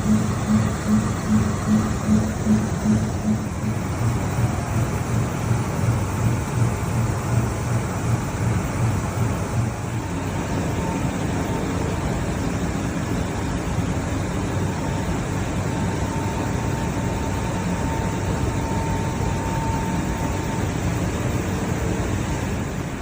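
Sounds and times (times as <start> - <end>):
milling machine cutter humming: 0.0 - 23.0.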